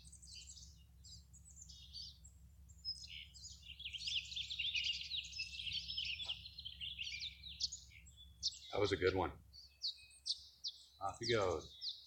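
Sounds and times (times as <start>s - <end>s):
swallows twittering: 0.0s - 12.0s.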